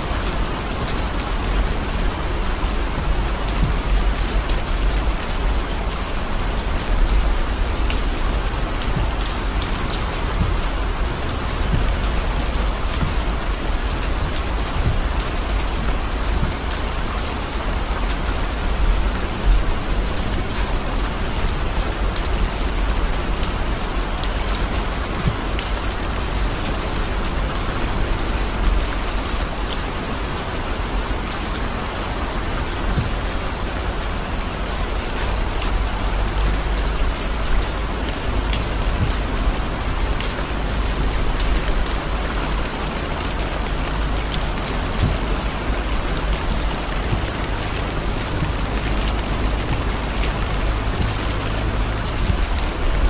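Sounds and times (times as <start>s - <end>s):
heavy rain on a car: 0.0s - 53.0s
low rumble of car: 0.0s - 53.0s.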